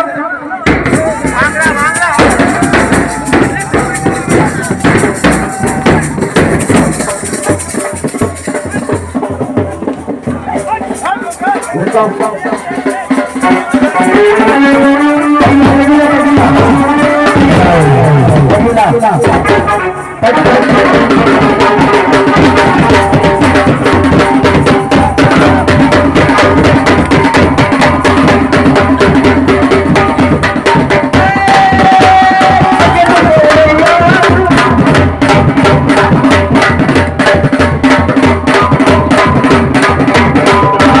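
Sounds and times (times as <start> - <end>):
drums beaten with sticks: 0.6 - 41.0.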